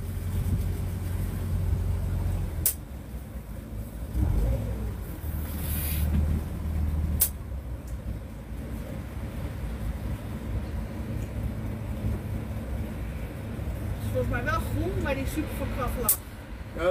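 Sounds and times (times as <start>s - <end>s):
boat engine humming: 0.0s - 16.9s.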